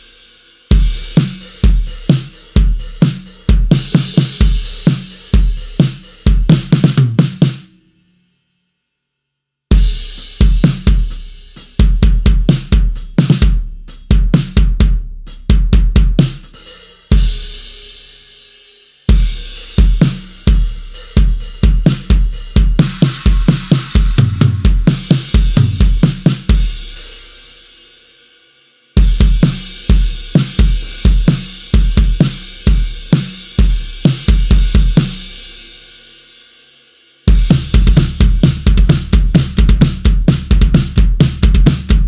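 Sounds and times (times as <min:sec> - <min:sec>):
rock drum kit groove: 0:00.0 - 0:07.7, 0:09.7 - 0:28.1, 0:29.0 - 0:36.1, 0:37.2 - 0:42.0.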